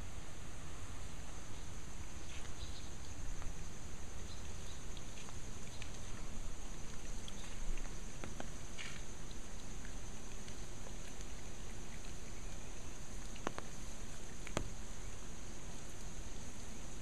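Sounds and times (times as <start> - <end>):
water dripping: 2.1 - 17.0.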